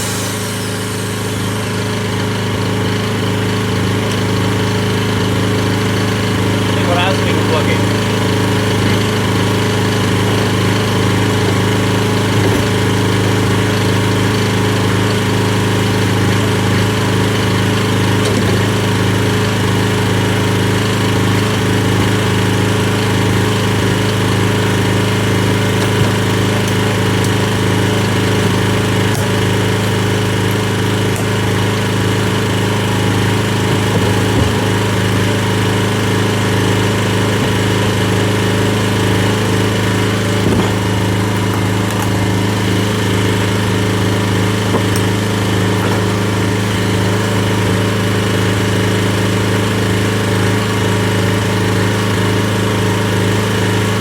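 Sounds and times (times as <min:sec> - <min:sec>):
generator engine humming: 0:00.0 - 0:54.0.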